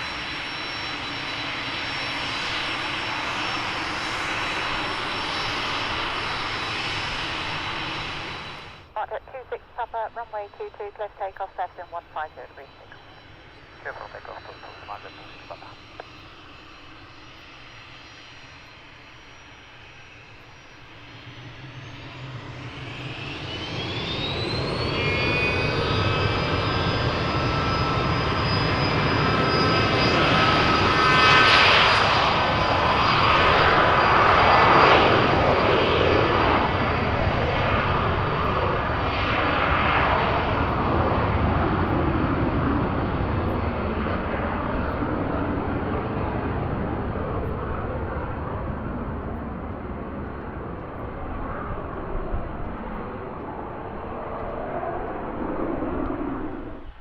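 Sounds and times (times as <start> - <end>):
jet taking off: 0.0 - 57.0.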